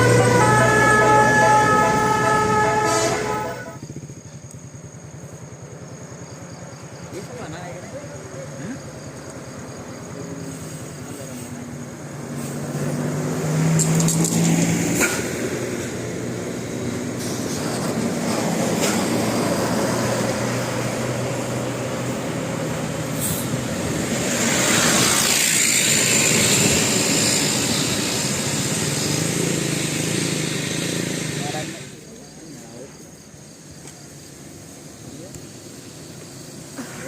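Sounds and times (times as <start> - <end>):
bus passing with hissing rush: 0.0 - 37.0
heavy bus engine drone: 0.0 - 37.0.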